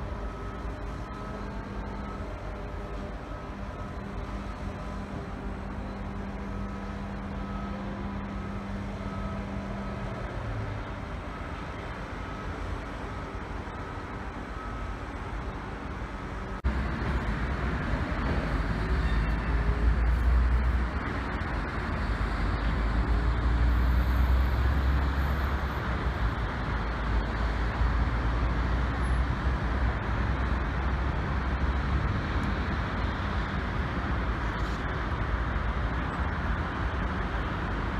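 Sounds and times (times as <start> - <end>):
hum of city traffic: 0.0 - 37.9.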